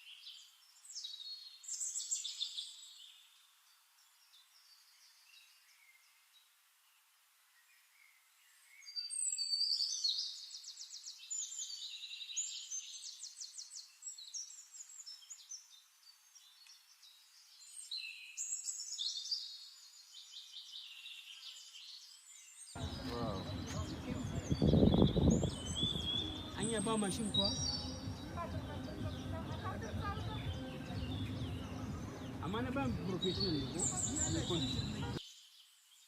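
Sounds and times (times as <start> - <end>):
songbirds trilling and chirping: 0.0 - 36.0.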